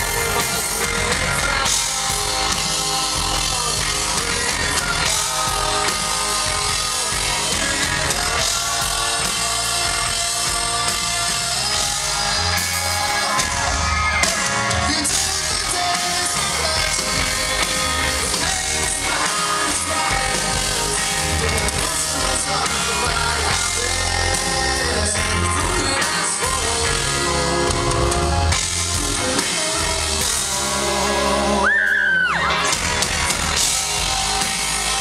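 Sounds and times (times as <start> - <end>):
bass guitar: 0.0 - 35.0
drums: 0.0 - 35.0
electric guitars: 0.0 - 35.0
person singing: 0.0 - 35.0.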